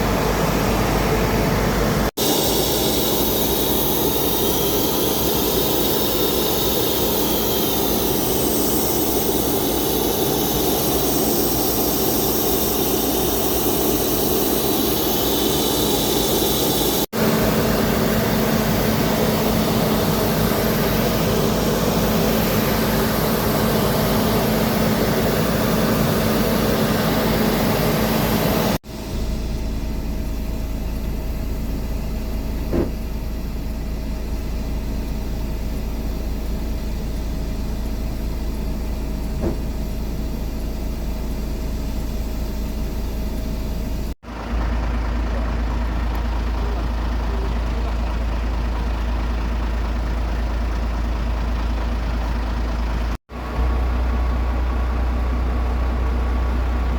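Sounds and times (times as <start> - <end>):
aircraft turbine engines running: 0.0 - 56.9.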